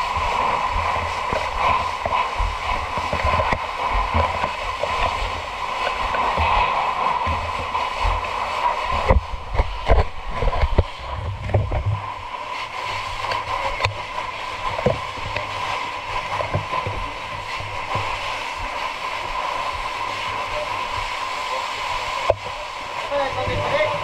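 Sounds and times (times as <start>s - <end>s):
water spraying from fire hoses: 0.0s - 24.0s.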